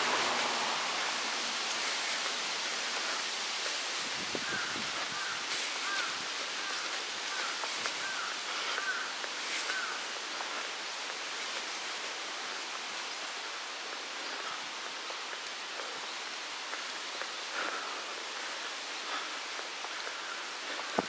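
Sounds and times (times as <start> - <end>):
outdoor ambient hiss: 0.0 - 21.0.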